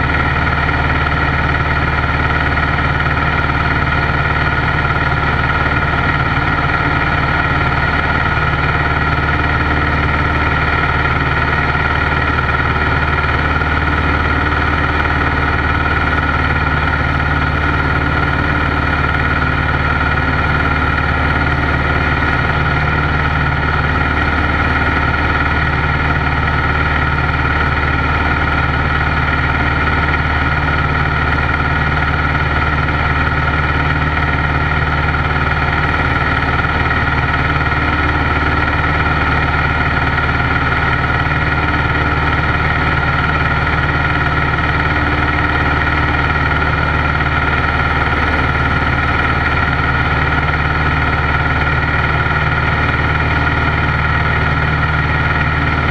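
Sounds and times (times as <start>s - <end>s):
propeller plane engine drone in cabin: 0.0s - 55.9s.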